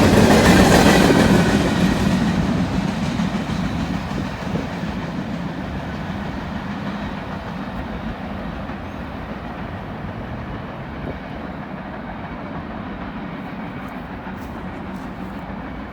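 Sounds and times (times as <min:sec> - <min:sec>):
freight train cars rolling: 0:00.0 - 0:15.9.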